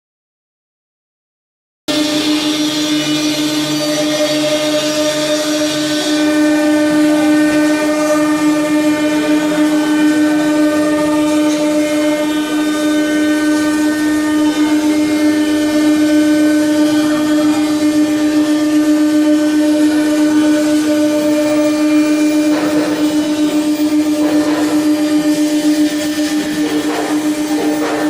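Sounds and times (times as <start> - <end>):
hiss of cutting: 1.9 - 28.0
router spindle whine: 1.9 - 28.0.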